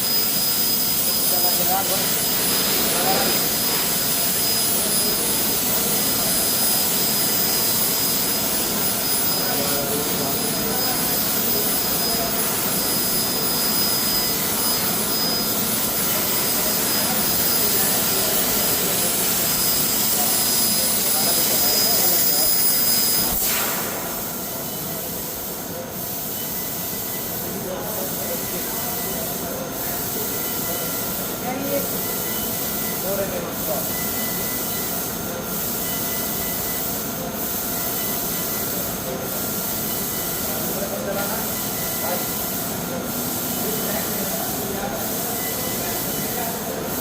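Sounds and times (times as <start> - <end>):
machinery hissing with thin whine: 0.0 - 47.0.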